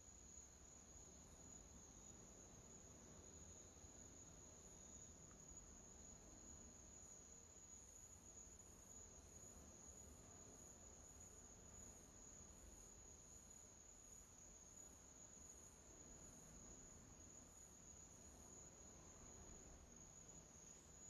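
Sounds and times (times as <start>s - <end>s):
faint high-pitched whine: 0.0s - 21.0s
faint pulsing hiss: 0.0s - 21.0s.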